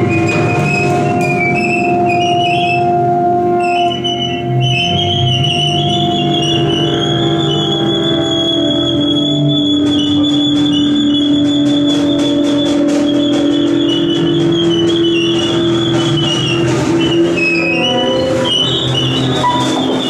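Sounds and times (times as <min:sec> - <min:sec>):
high sustained tones: 0:00.0 - 0:20.0.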